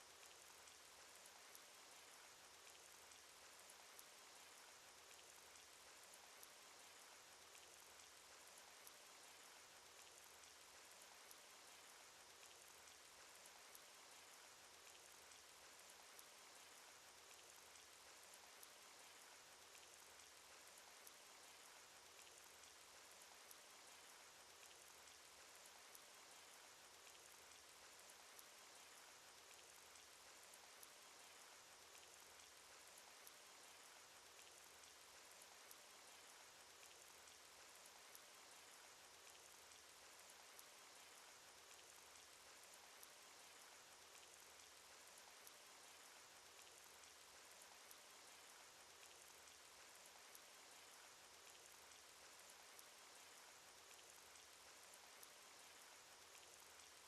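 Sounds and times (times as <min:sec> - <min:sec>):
single raindrops ticking: 0:00.0 - 0:57.0.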